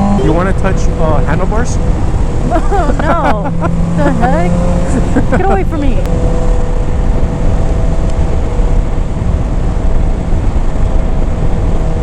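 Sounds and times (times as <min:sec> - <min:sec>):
motorcycle engine hum: 0:00.0 - 0:12.0
wind rumble: 0:00.0 - 0:12.0.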